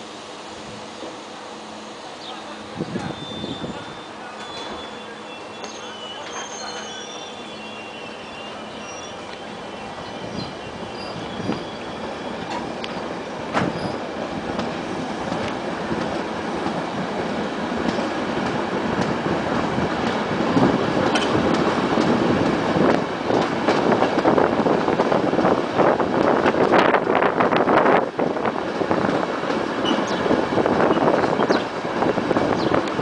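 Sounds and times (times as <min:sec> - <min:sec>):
train wheels on rail: 0:00.1 - 0:33.0.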